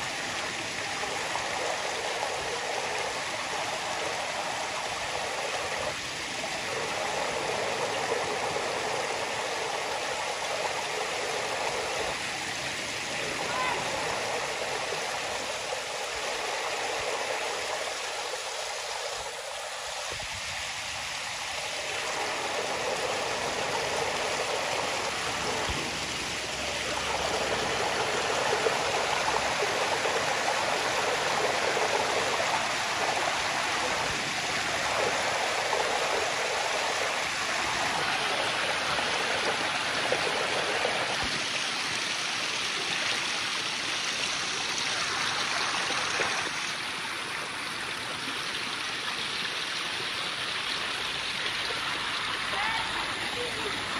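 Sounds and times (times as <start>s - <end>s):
stream running over stones: 0.0s - 53.9s.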